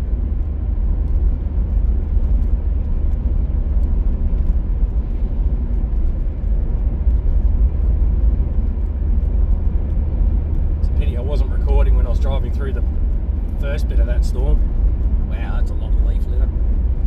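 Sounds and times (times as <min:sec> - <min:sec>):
car interior road noise: 0:00.0 - 0:17.0.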